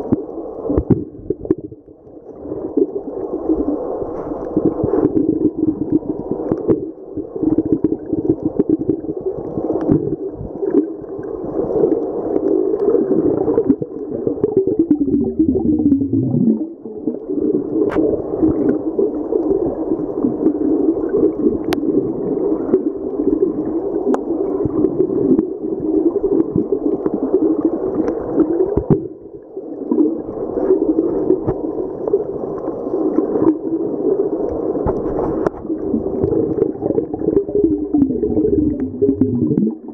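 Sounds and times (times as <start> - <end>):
underwater rushing water: 0.0 - 39.9.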